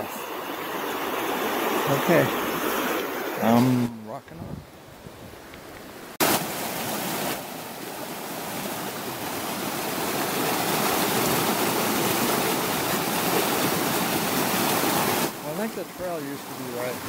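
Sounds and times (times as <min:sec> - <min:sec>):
stream rushing over rocks: 0:00.0 - 0:03.7, 0:06.2 - 0:17.0.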